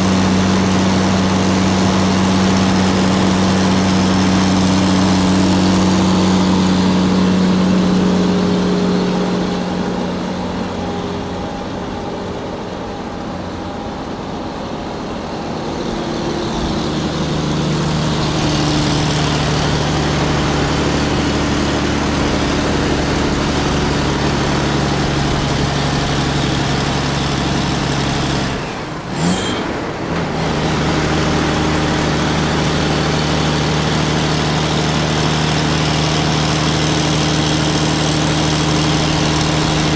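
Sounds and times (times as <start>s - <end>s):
large truck engine running: 0.0s - 39.9s.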